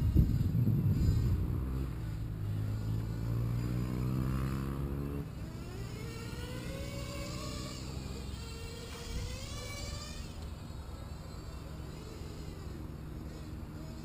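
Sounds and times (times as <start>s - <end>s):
propeller motor drone: 0.0s - 14.0s.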